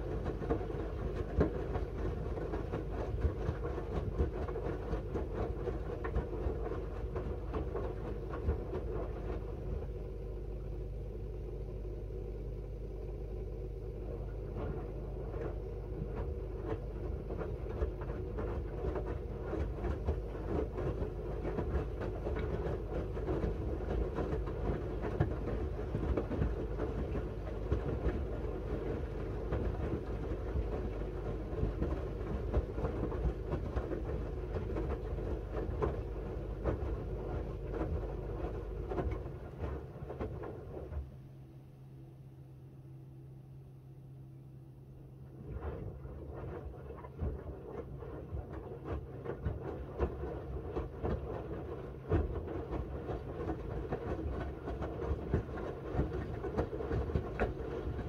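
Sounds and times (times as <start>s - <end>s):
washing machine drum tumbling laundry: 0.0s - 41.3s, 44.7s - 58.0s
washing machine motor rumble: 0.0s - 58.0s.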